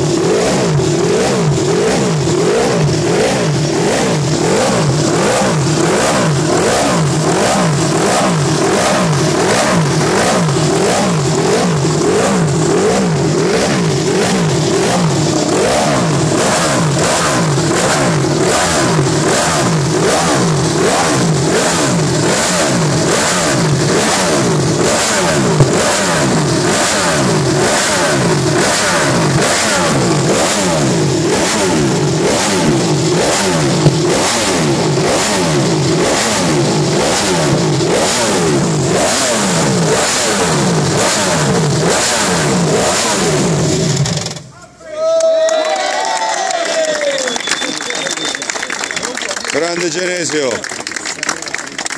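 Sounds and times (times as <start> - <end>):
racing engine revving: 0.0 - 44.5
sharp exhaust cracks: 0.0 - 44.7.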